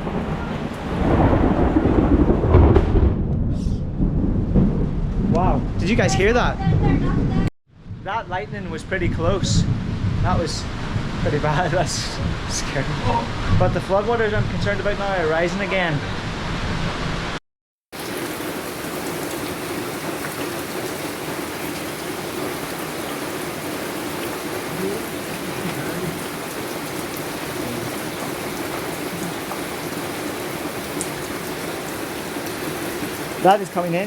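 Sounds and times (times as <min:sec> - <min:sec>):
heavy rain pouring: 0:00.0 - 0:07.5, 0:08.3 - 0:34.0.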